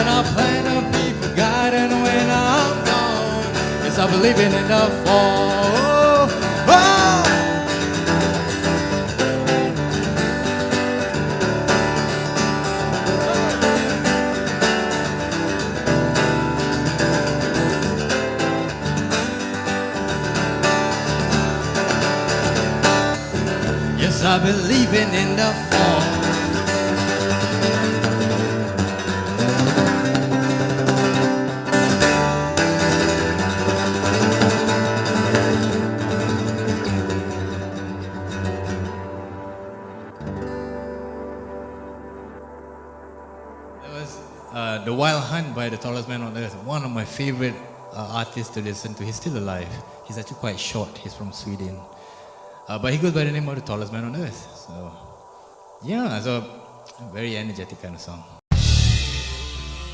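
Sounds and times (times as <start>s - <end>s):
acoustic guitar strumming: 0.0s - 50.8s, 58.5s - 59.9s.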